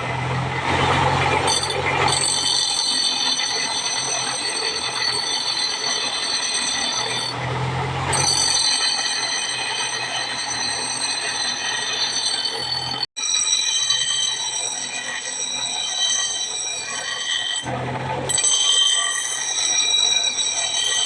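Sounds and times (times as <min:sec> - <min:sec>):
workshop machine motor whine: 0:00.0 - 0:21.0.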